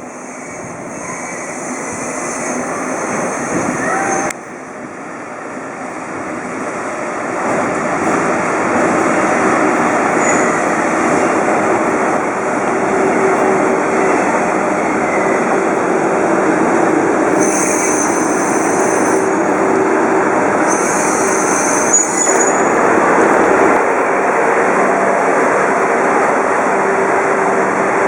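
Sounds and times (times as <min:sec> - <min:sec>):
train rushing rumble: 0:00.0 - 0:28.0.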